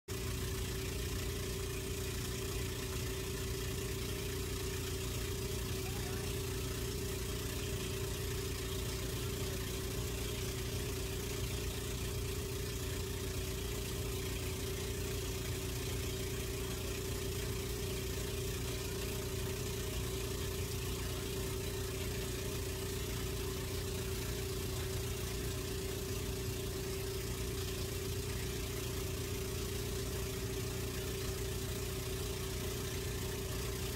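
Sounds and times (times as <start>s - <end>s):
engine droning: 0.1s - 33.9s.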